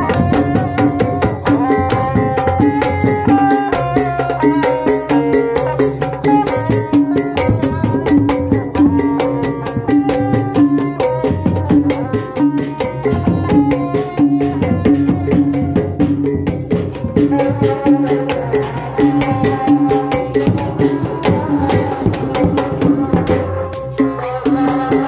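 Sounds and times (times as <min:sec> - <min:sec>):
frame drum beat: 0:00.0 - 0:25.0.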